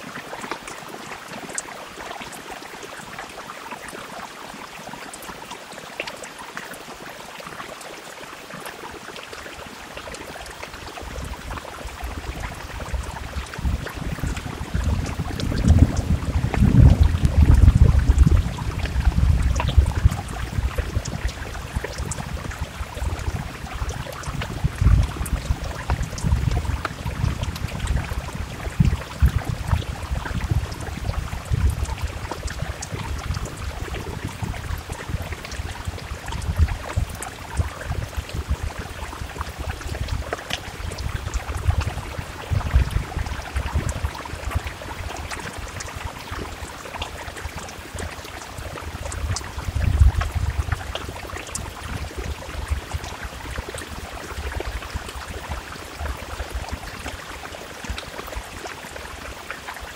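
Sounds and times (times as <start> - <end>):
rain against a window: 0.0 - 59.9.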